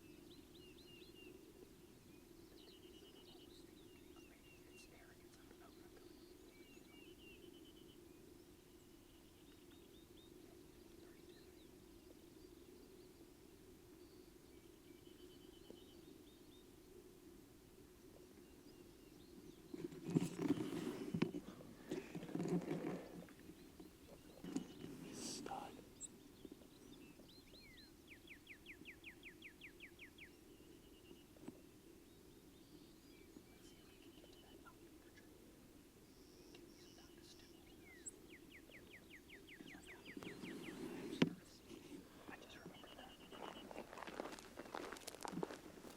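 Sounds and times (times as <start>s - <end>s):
faint low background hum: 0.0s - 45.9s
small birds chirping faintly: 0.0s - 45.9s
songbird singing: 0.0s - 45.9s.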